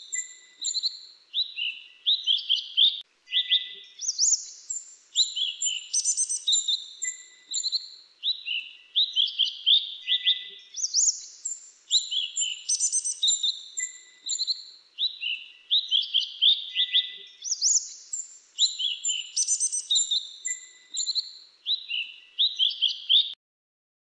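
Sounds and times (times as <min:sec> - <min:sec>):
songbird chirps and trills: 0:00.0 - 0:23.4.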